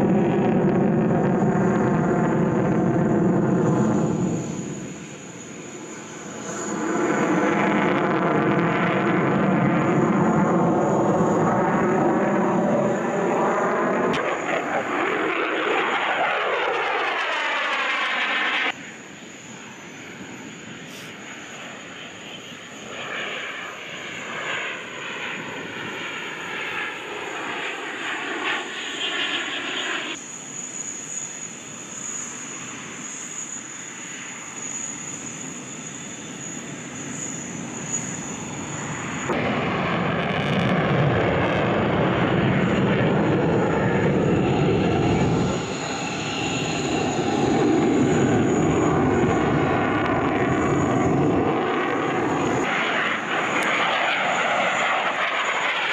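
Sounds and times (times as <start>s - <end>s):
fighter jet engine roar: 0.0s - 55.9s
fighter jet passing: 0.0s - 55.9s.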